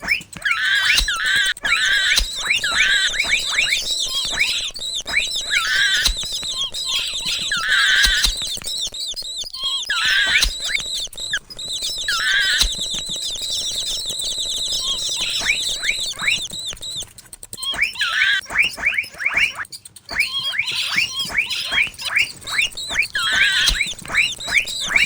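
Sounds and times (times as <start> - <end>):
mouse squeaks and chirps: 0.0 - 25.0
wavering squeal: 0.0 - 25.0.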